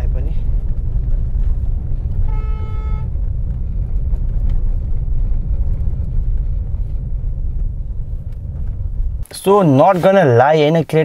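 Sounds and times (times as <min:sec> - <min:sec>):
gravel clicks and ticks: 0:00.0 - 0:02.3, 0:03.0 - 0:09.6
car cabin road rumble: 0:00.0 - 0:11.0.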